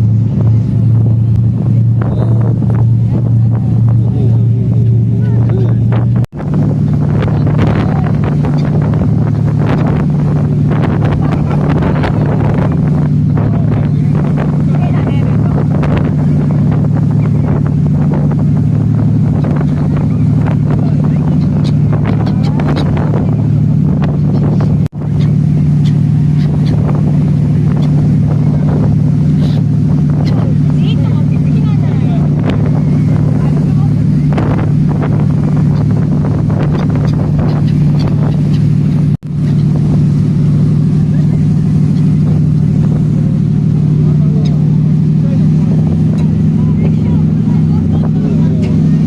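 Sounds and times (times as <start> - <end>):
ship engine humming: 0.0 - 49.0
wind buffeting microphone: 0.0 - 49.0.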